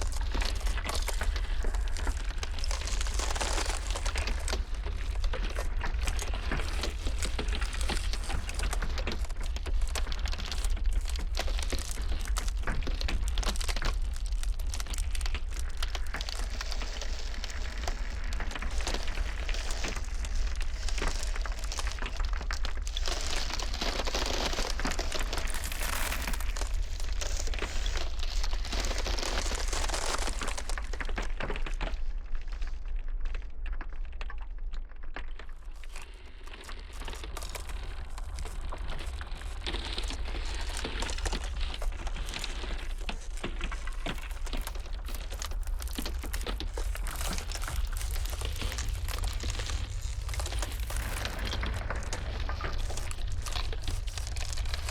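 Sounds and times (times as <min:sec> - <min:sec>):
blizzard wind rumble: 0:00.0 - 0:32.4, 0:36.1 - 0:54.9
ice cracking and crackling: 0:00.0 - 0:54.9.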